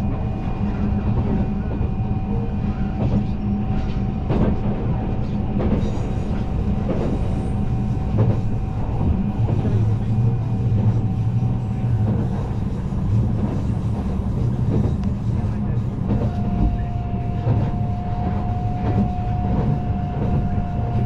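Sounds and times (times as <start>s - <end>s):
constant hum: 0.0s - 21.0s
train rumbling on rails: 0.0s - 21.0s.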